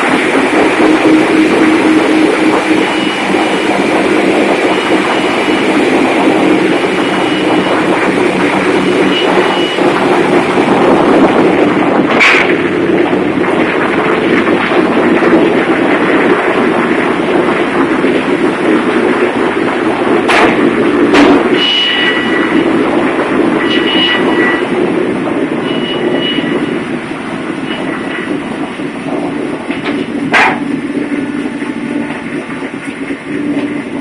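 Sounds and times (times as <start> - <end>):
marine diesel engines running: 0.0 - 34.0.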